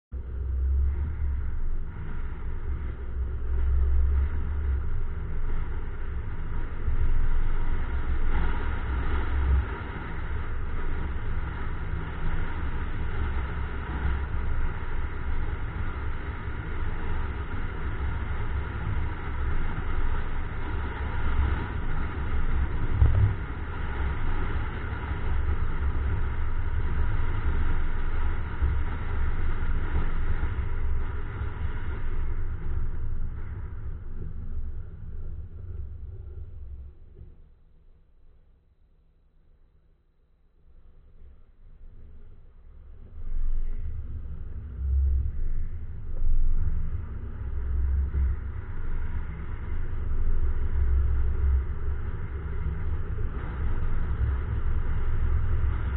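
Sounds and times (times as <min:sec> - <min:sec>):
road and wind noise: 0:00.1 - 0:37.3, 0:43.1 - 0:55.9.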